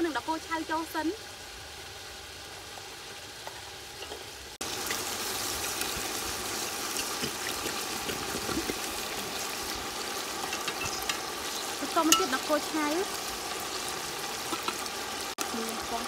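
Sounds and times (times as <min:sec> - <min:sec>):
pot simmering and bubbling: 0:00.0 - 0:16.0.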